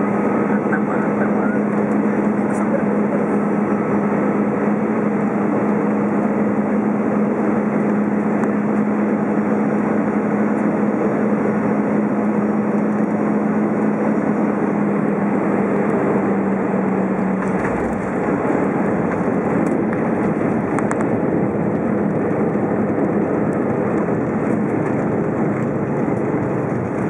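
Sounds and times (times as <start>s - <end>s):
airplane cabin engine and airflow rush: 0.0s - 27.0s
constant low hum: 0.0s - 27.0s.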